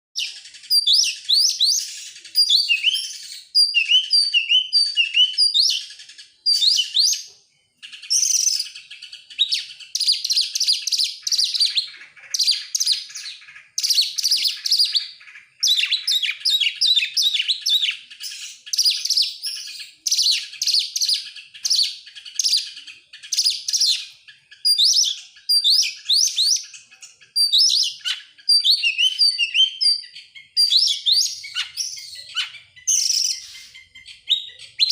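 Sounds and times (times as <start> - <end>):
magpie-robin singing: 0.2 - 34.9.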